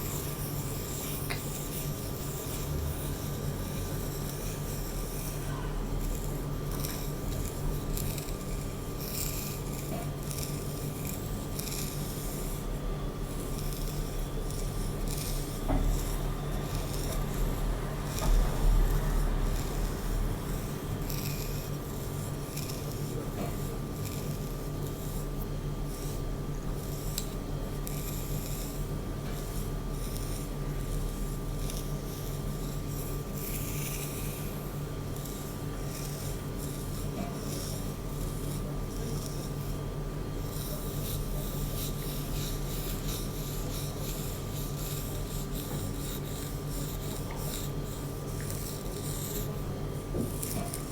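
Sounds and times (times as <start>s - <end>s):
faint electrical hum: 0.0s - 50.9s.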